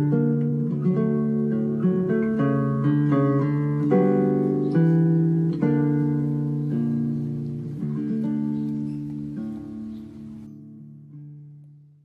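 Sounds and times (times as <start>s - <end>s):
acoustic guitar picked chords: 0.0s - 12.0s.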